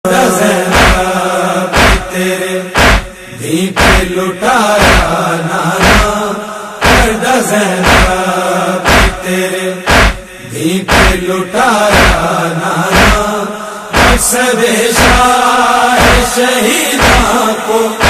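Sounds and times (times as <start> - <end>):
male chorus humming chant: 0.1 - 18.0
chest-beating slaps: 0.6 - 12.3, 12.9 - 15.3, 16.0 - 16.4, 17.0 - 17.4.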